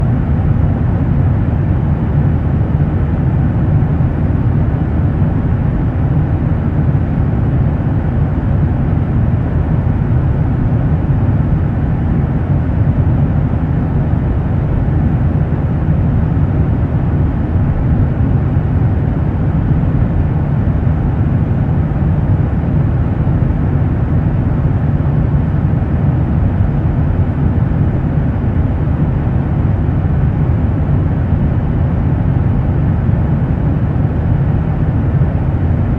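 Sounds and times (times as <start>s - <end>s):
low rumble of road traffic: 0.0s - 35.9s.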